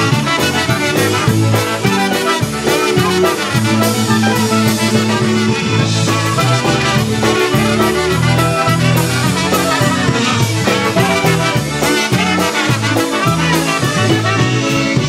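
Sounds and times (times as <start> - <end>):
polka band playing: 0.0 - 15.0.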